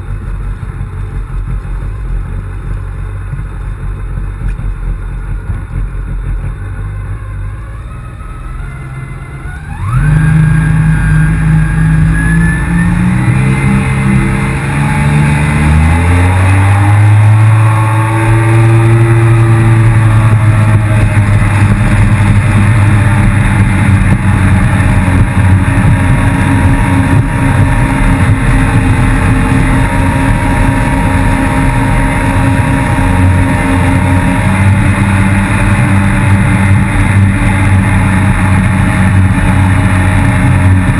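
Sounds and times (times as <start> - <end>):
jet ski engine revving: 0.0 - 40.9.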